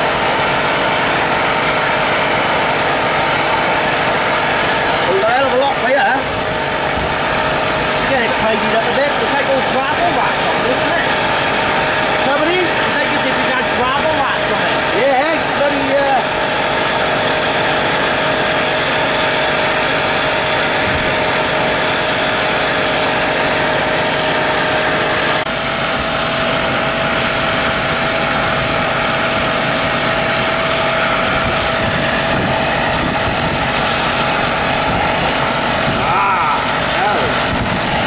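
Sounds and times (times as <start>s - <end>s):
mechanical running noise: 0.0s - 38.0s.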